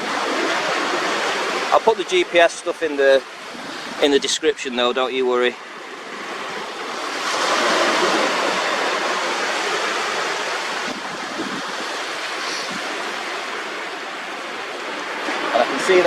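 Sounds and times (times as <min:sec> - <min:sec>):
water lapping over sand: 0:00.0 - 0:16.0.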